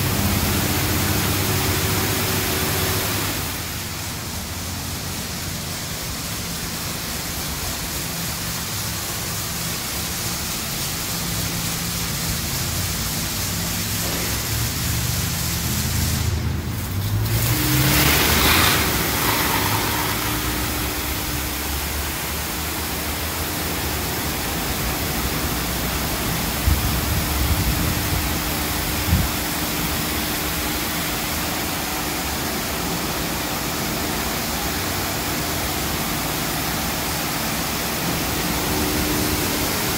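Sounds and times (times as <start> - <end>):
steady machine hum: 0.0 - 39.9
water jets spraying a car: 0.0 - 39.9.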